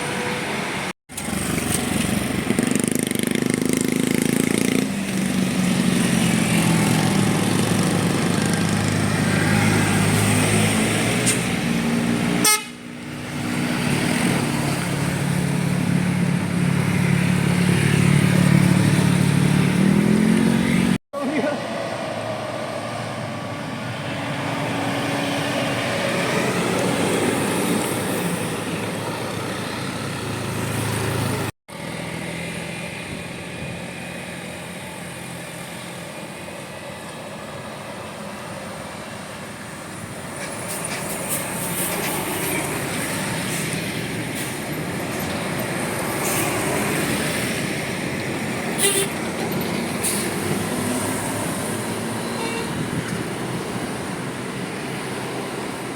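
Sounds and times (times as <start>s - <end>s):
bus diesel engines running: 0.0s - 55.9s
traffic noise: 0.0s - 55.9s.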